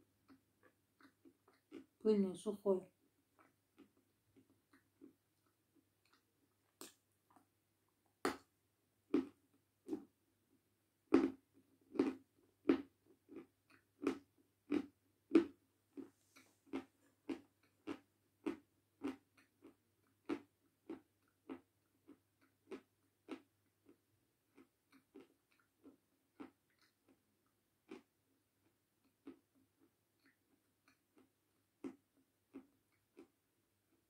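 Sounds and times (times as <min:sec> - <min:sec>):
chalk crunching while chewed: 0:00.2 - 0:01.9, 0:03.4 - 0:07.5, 0:11.1 - 0:34.0.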